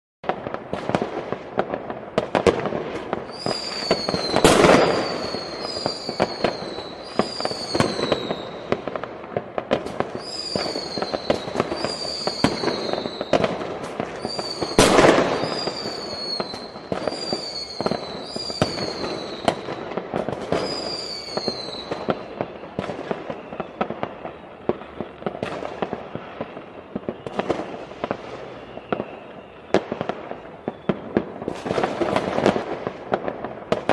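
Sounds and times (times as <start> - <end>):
falling firework whistles: 0.2 - 33.9
fireworks bangs and crackles: 0.2 - 33.9.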